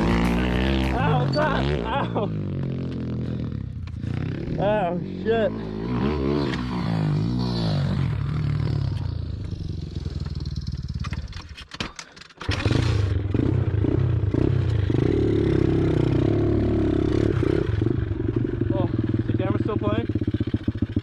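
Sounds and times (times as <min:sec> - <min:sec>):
pit bike engine running: 0:00.0 - 0:11.3, 0:12.5 - 0:21.0.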